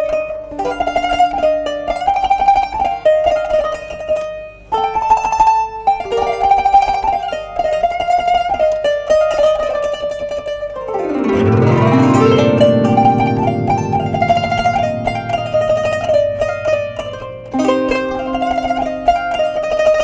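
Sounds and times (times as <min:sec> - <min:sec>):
plucked zither melody: 0:00.0 - 0:20.0.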